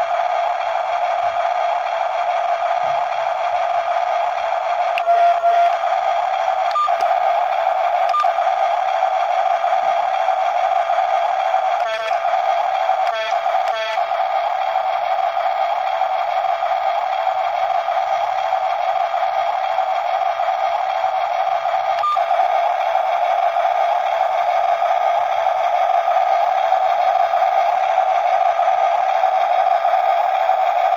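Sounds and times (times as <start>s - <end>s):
toy motors and gears whining: 0.0s - 30.9s.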